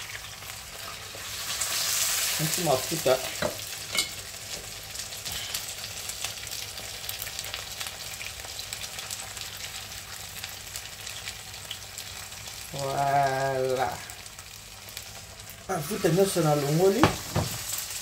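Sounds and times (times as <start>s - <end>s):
fish sizzling in hot oil: 0.0s - 18.0s.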